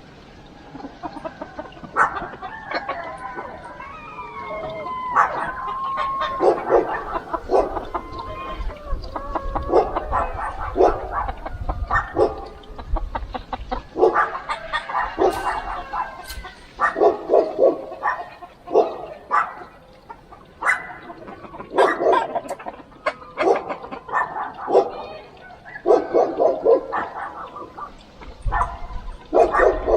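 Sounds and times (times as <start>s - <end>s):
animals calling in bursts: 0.0s - 29.9s.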